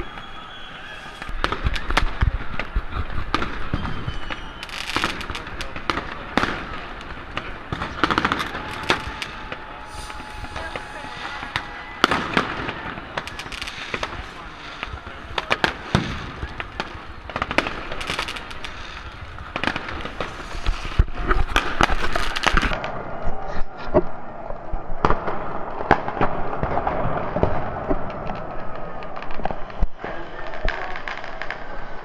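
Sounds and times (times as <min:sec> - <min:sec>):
fireworks and firecrackers banging: 0:00.0 - 0:32.0.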